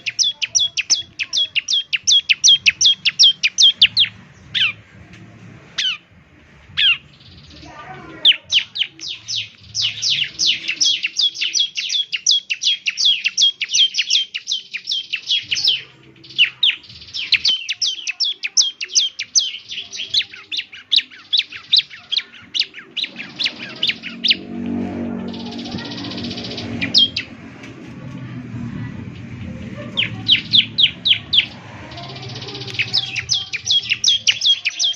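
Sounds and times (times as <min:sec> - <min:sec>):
bird singing sharp chips: 0:00.0 - 0:04.8, 0:06.8 - 0:27.3, 0:30.0 - 0:34.9.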